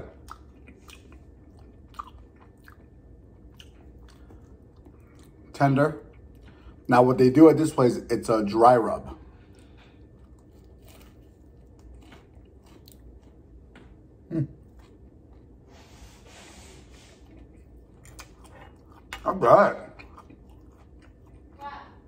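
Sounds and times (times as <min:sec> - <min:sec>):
person chewing crunchy food: 0:00.0 - 0:06.9, 0:09.2 - 0:15.7, 0:16.8 - 0:21.6.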